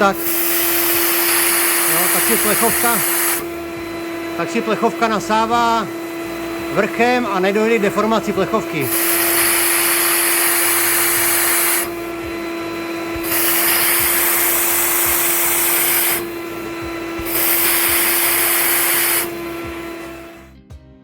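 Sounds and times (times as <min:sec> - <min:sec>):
vacuum cleaner motor hum: 0:00.0 - 0:20.8.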